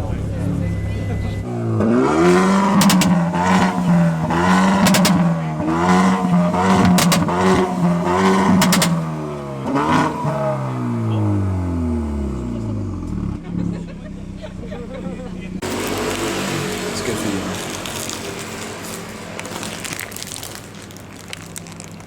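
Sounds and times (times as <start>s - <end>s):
car engine revving: 0.0s - 22.0s
exhaust cracks: 0.0s - 22.0s.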